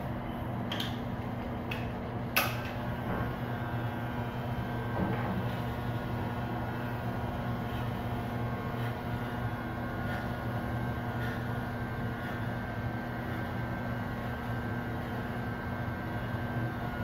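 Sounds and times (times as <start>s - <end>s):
electric hair clippers humming: 0.7s - 17.0s.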